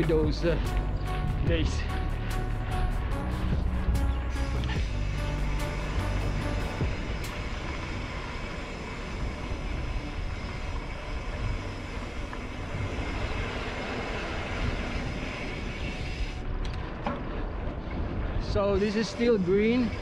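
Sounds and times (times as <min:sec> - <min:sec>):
bike tyres rolling on dirt: 0:00.0 - 0:20.0
wind on microphone: 0:00.0 - 0:20.0.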